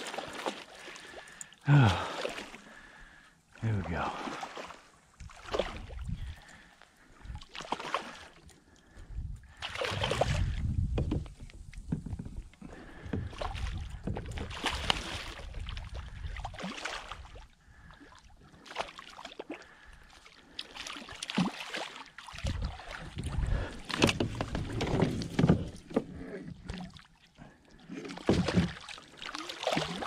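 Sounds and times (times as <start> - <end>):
water splashing and churning: 0.0 - 30.0.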